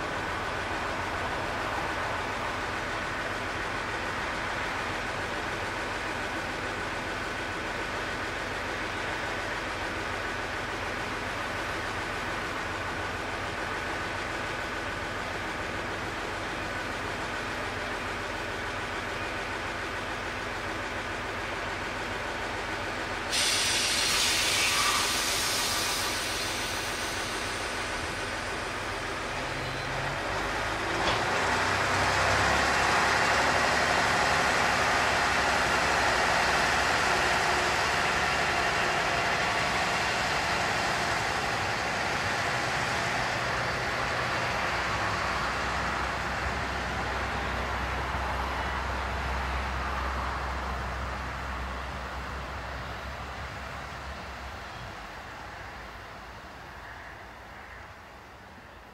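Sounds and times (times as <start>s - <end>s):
diesel railcar engine: 0.0s - 58.9s.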